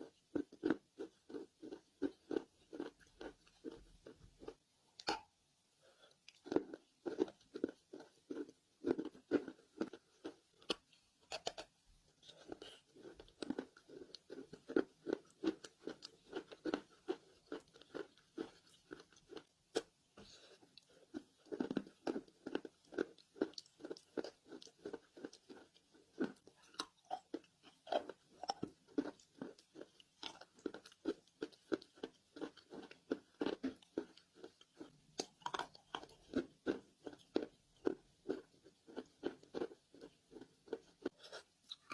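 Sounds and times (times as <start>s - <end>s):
chewing crunchy clay: 0.0s - 5.3s, 6.1s - 41.9s.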